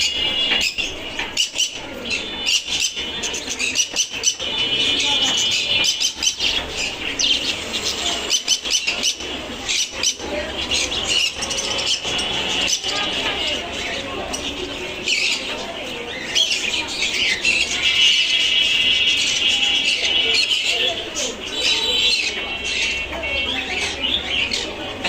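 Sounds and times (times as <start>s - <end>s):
caged birds chirping: 0.0s - 25.0s.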